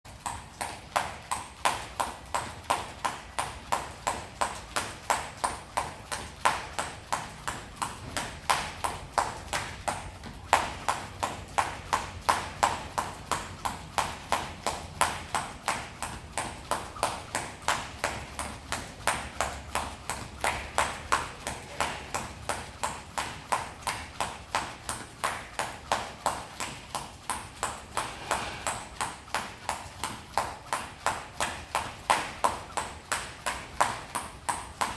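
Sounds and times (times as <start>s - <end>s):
jump rope slapping the floor: 0.1s - 34.9s.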